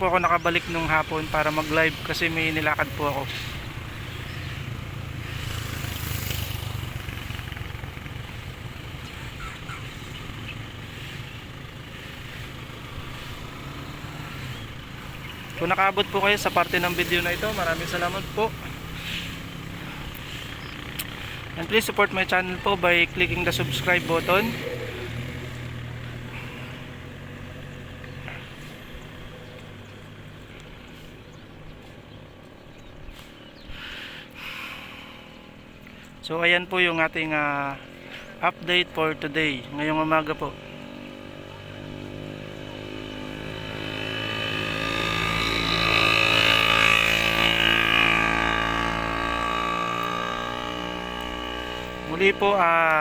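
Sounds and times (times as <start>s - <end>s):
light outdoor noise: 0.0s - 53.0s
small engine droning: 0.0s - 53.0s.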